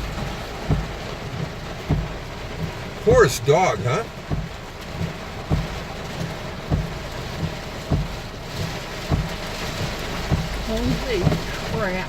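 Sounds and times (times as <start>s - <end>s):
heavy rain on a car: 0.0s - 12.0s.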